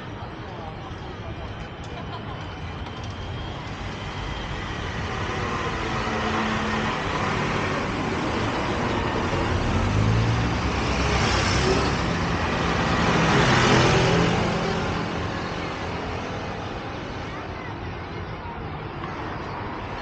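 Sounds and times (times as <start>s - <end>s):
cars passing by: 0.0s - 20.0s.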